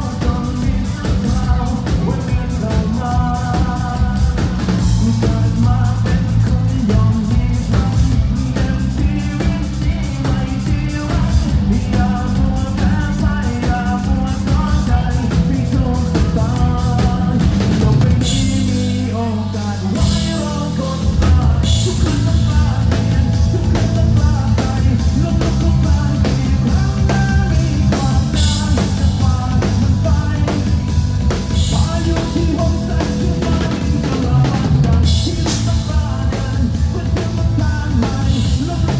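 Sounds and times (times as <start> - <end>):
person singing: 0.0 - 38.9
rock band playing live: 0.0 - 38.9.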